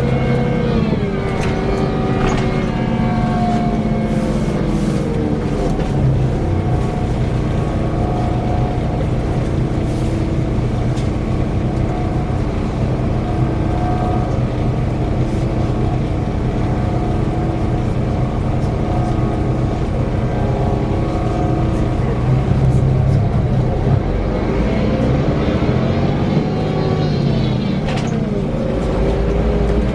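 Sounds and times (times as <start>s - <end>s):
coach engine whirring drone: 0.0s - 29.9s.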